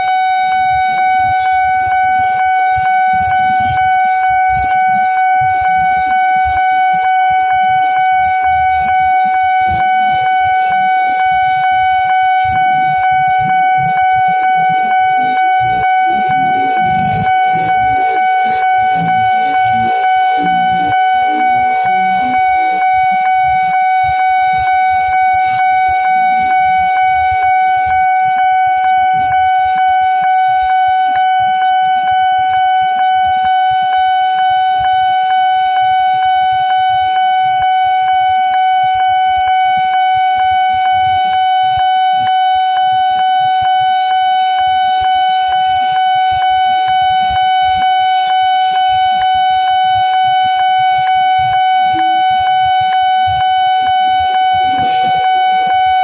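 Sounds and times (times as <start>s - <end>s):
level crossing alarm tone: 0.0s - 56.0s.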